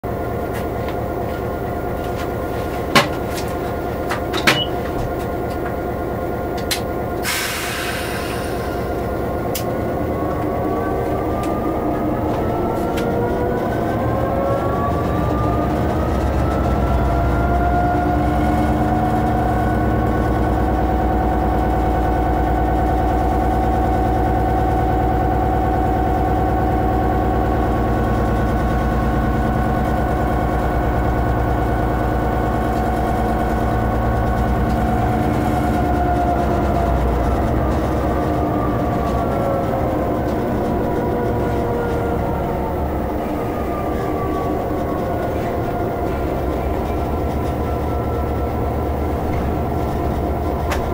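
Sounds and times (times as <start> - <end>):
diesel locomotive engine running: 0.0 - 50.9.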